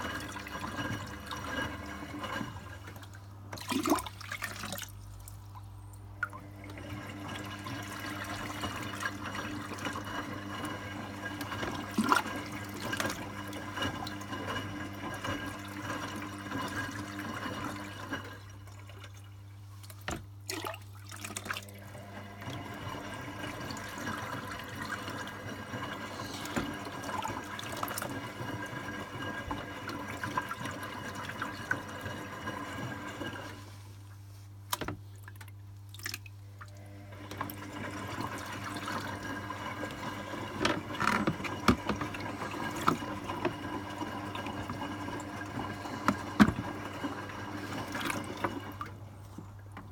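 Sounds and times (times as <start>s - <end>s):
water sloshing in washing machine: 0.0s - 49.9s.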